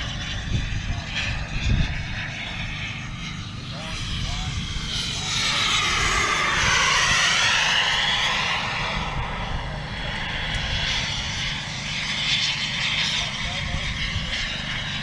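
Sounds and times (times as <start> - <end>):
model jet turbine whining: 0.0 - 15.0.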